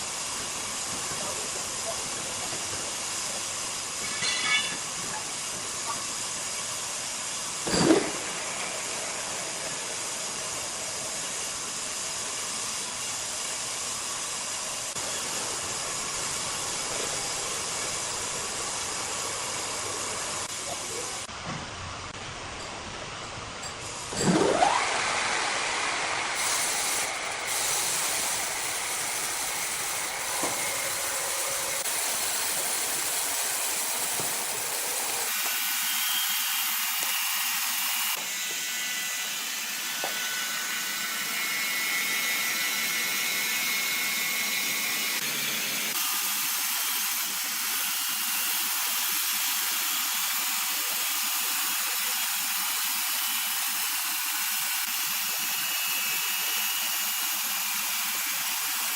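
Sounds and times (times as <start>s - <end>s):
sawmill machinery hissing: 0.0s - 58.9s.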